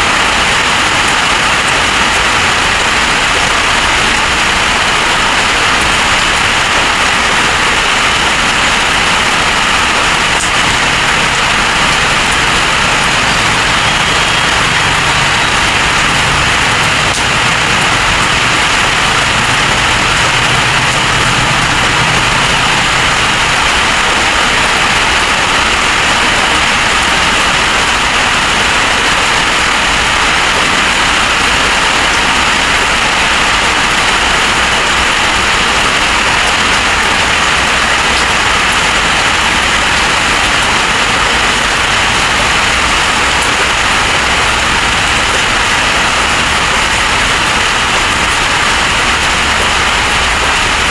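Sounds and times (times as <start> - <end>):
heavy rain and wind: 0.0 - 50.9.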